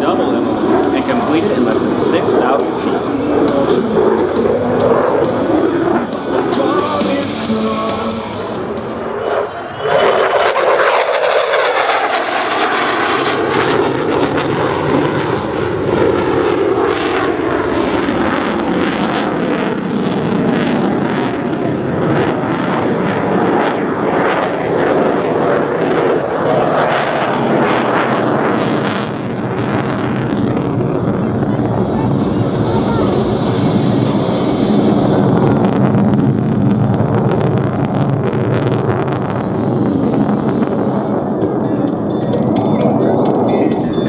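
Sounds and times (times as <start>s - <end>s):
jet engine roaring overhead: 0.0s - 44.0s.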